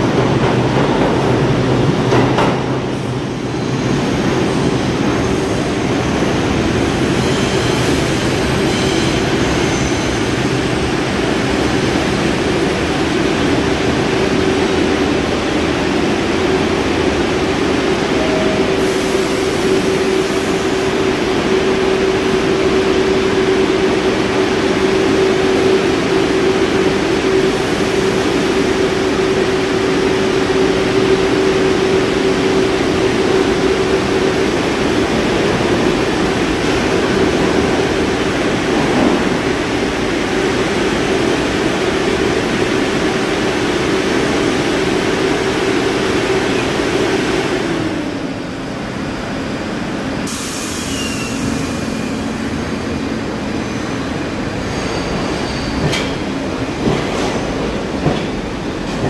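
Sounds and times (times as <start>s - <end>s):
subway train humming: 0.0s - 59.0s.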